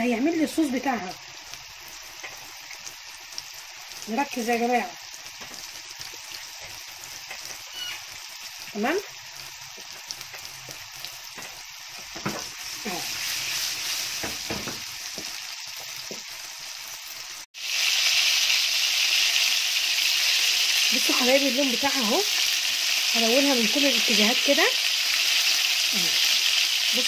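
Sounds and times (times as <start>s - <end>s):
meatballs sizzling in hot oil: 0.0s - 27.0s.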